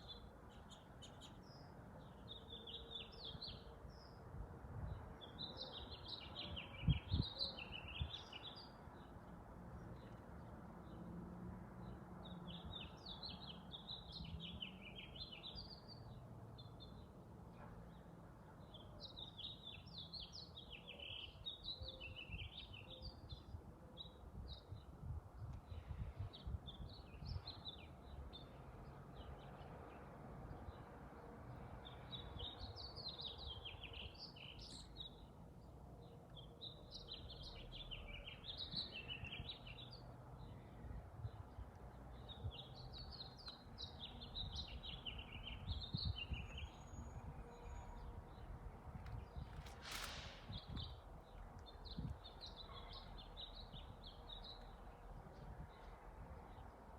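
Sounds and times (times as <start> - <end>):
songbird singing: 0.0 - 11.2, 11.8 - 56.9.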